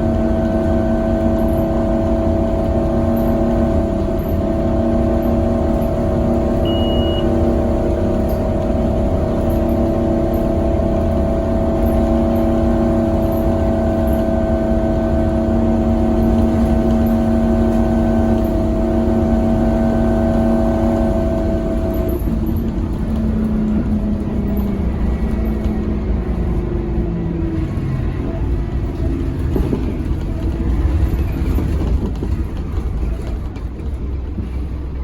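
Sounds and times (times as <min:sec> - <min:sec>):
bus diesel engine whine: 0:00.0 - 0:35.0.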